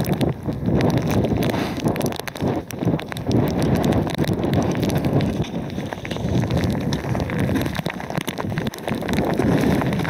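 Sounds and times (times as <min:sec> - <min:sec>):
wind buffeting microphone: 0:00.0 - 0:10.0
footsteps crunching on rock: 0:01.0 - 0:10.0.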